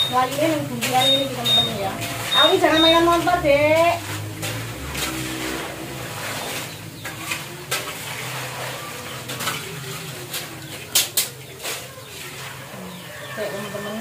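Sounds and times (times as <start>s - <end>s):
utensils scraping and clattering wok: 0.0s - 14.0s.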